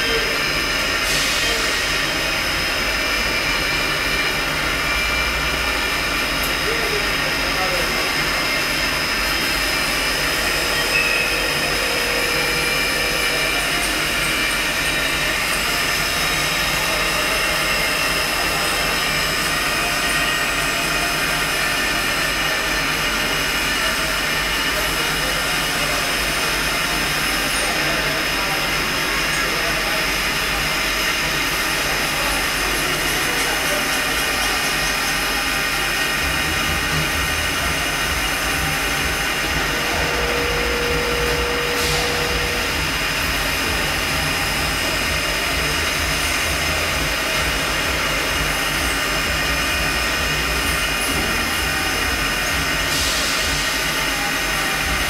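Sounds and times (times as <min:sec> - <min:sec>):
low machine hum: 0:00.0 - 0:55.0
machine spindle whine: 0:00.0 - 0:55.0.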